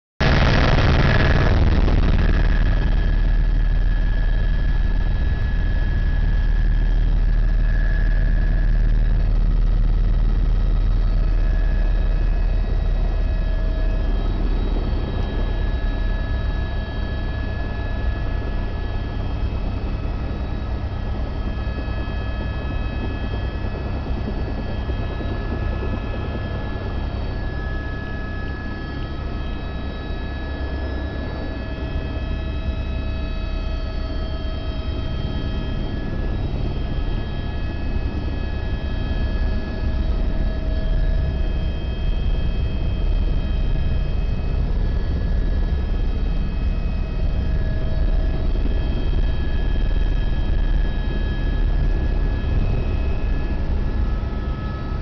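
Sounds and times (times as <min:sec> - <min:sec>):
faint steady whine: 0:00.2 - 0:55.0
helicopter rotor and engine drone: 0:00.2 - 0:55.0.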